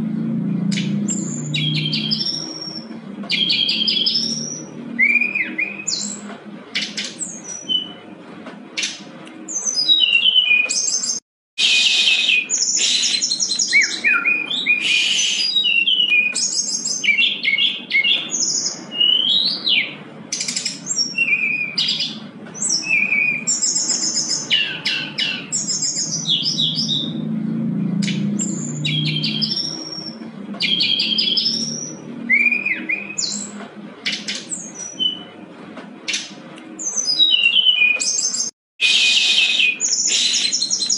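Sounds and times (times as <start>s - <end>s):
bird singing with trills: 0.3s - 8.0s, 8.8s - 35.4s, 36.1s - 40.9s.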